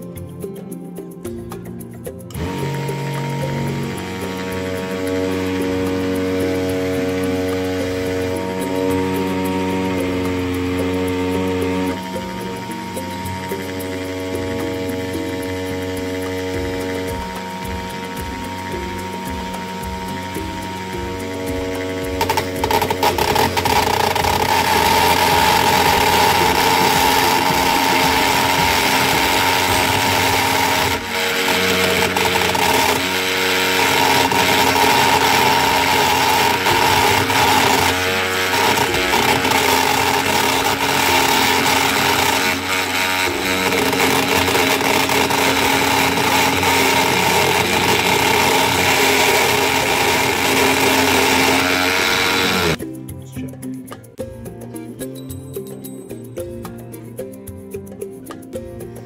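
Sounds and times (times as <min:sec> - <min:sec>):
lathe motor whining: 0:02.3 - 0:52.8.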